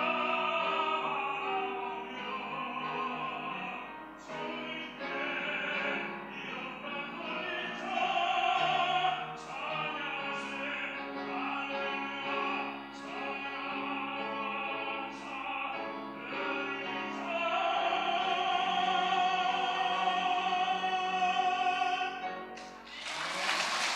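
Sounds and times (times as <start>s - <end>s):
baritone operatic singing: 0.0s - 23.9s.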